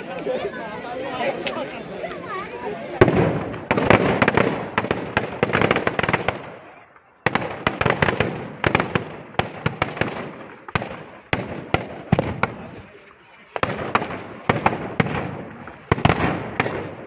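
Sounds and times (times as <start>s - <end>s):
firecrackers banging: 2.9s - 17.0s.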